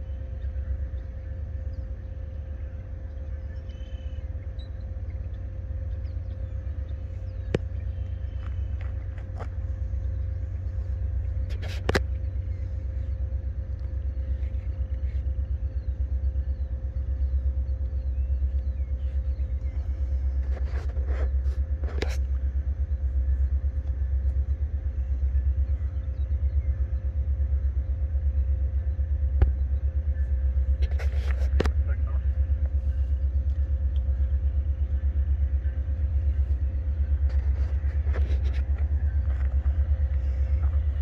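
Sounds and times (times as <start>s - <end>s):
steady faint tone: 0.0s - 41.0s.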